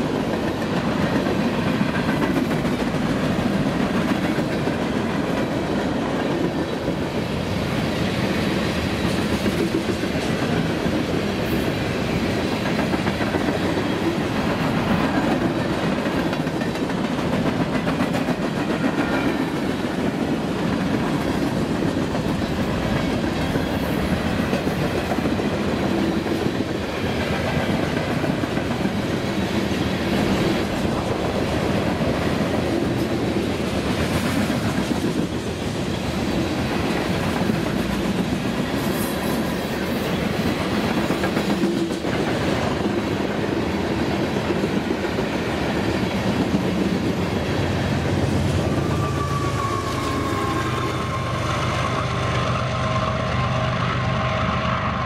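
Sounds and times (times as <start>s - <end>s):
freight train wheels rumbling and clattering: 0.0s - 55.0s.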